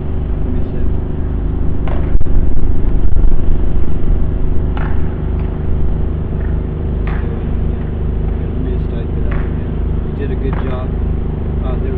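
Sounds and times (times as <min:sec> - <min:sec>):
vehicle engine idling: 0:00.0 - 0:11.9.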